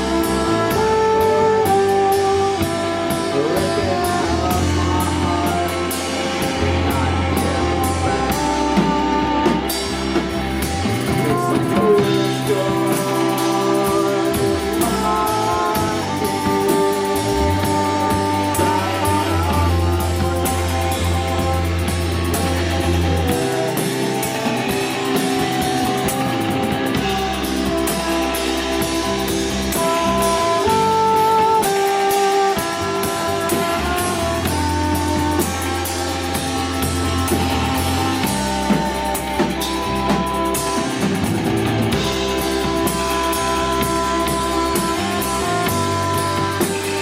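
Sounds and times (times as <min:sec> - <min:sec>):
bass guitar held notes: 0:00.0 - 0:47.0
drum kit with cymbals: 0:00.0 - 0:47.0
electric guitar playing: 0:00.0 - 0:47.0.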